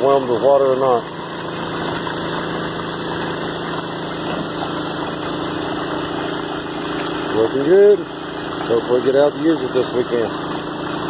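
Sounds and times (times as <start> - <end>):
small pump engine running: 0.0 - 11.0
water rushing and splashing: 0.0 - 11.0.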